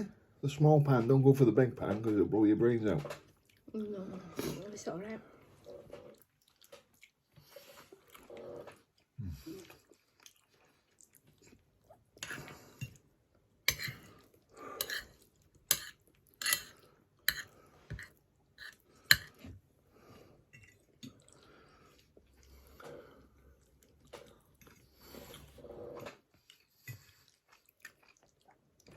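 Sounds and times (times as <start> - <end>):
person chewing food: 3.2 - 3.8, 5.4 - 28.9.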